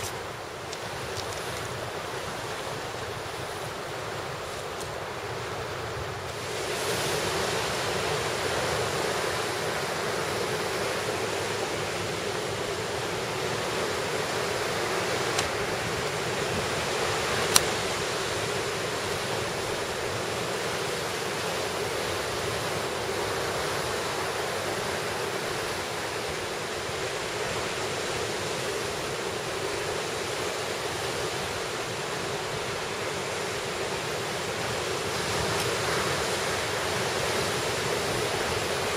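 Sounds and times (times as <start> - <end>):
sea surf: 0.0 - 38.9
wind: 0.0 - 38.9.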